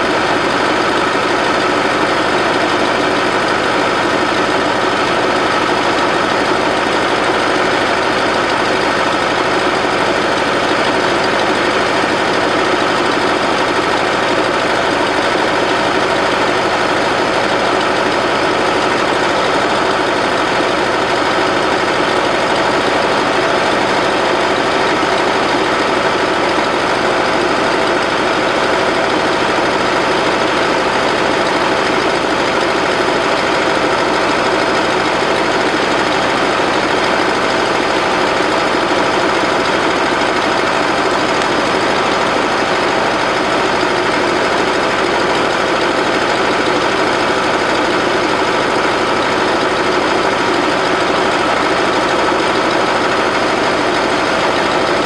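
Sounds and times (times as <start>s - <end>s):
loader engine running loudly: 0.0s - 55.0s.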